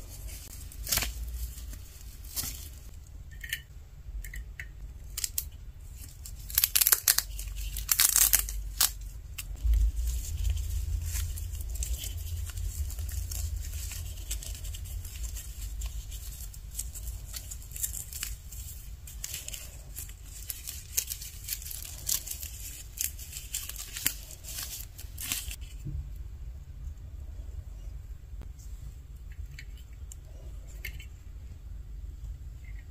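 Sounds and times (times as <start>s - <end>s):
low background rumble: 0.0s - 32.9s.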